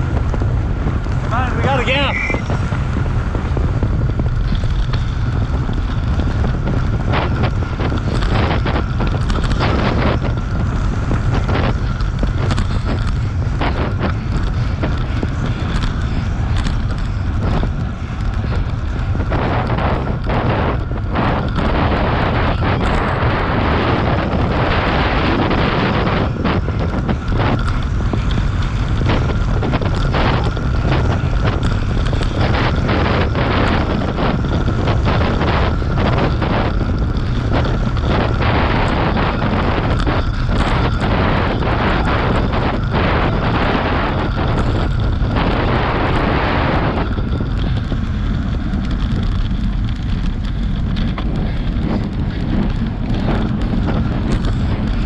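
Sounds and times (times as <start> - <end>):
wind rushing on microphone: 0.0 - 55.0.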